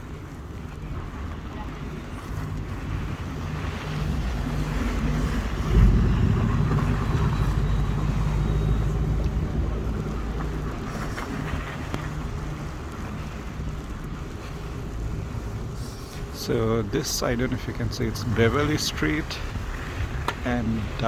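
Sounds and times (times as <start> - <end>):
vehicle passing with low rumble: 0.0 - 21.0.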